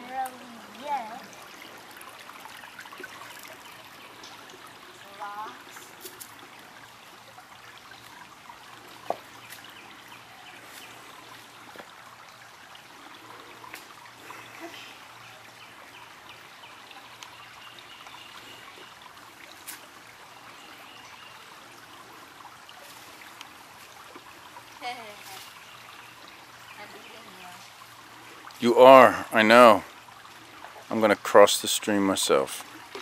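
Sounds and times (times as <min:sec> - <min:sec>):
stream trickling over rocks: 0:00.0 - 0:33.0.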